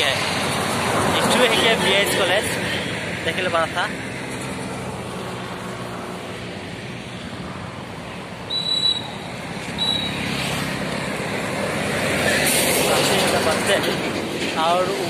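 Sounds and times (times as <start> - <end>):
highway traffic passing: 0.0 - 15.0.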